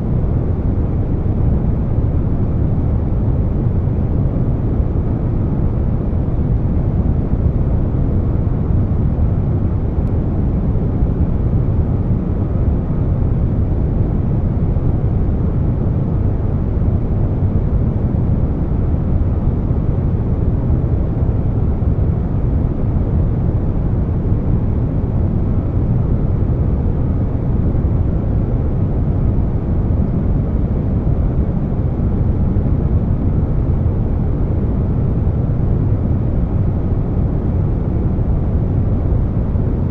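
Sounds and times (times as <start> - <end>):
air conditioner noise: 0.0 - 39.9.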